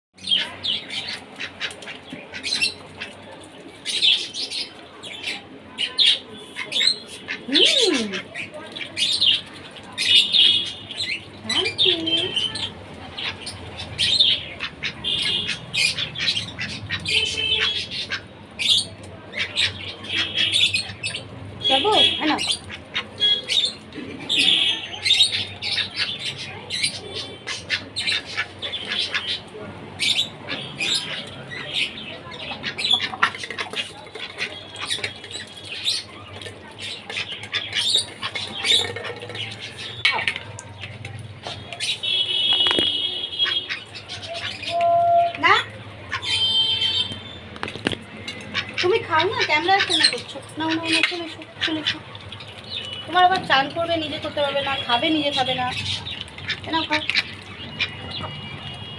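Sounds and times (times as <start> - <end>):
pet birds calling: 0.2 - 58.9
ducks squawking: 0.3 - 3.2, 6.0 - 36.2, 36.8 - 40.4, 41.6 - 44.7, 45.5 - 47.4, 48.4 - 52.9, 54.7 - 58.9.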